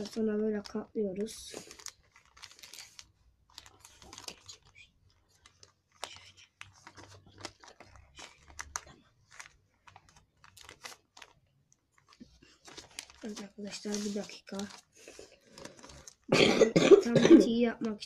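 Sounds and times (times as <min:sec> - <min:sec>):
paper crinkling clicks: 0:00.0 - 0:16.3
paper rustling: 0:00.0 - 0:16.3.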